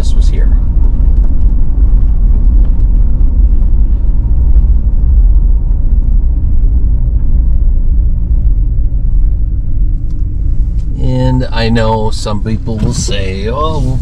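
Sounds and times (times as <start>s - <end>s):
car road noise rumble: 0.0s - 14.0s.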